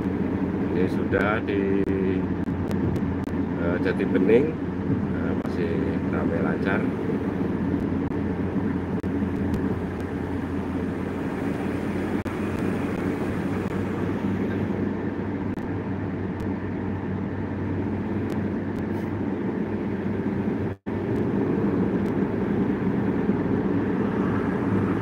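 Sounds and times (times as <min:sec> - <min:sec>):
car road and engine hum: 0:00.0 - 0:25.0.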